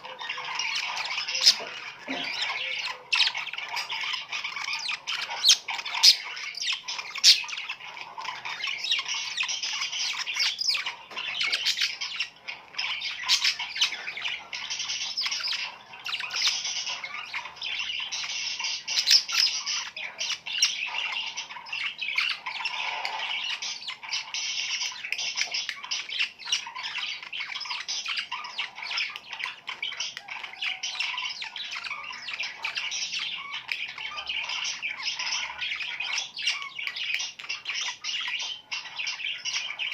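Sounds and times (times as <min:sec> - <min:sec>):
flock of budgerigars chattering: 0:00.0 - 0:39.9.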